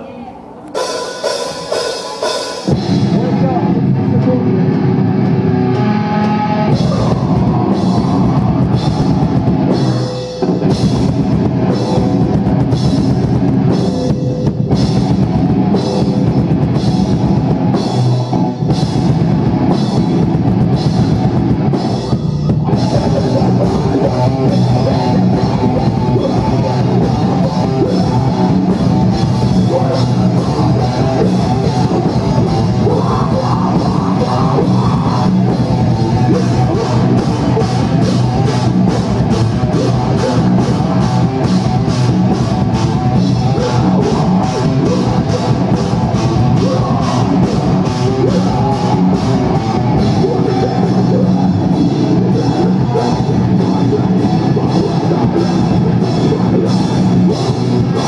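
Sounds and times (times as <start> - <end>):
heavy rock band playing: 0.6 - 58.0.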